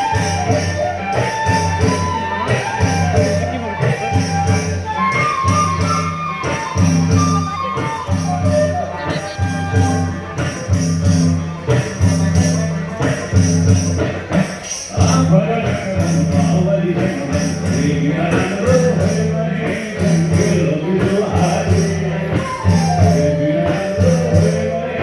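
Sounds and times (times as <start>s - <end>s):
drums beating steady rhythm: 0.0s - 25.0s
jingling percussion: 0.0s - 25.0s.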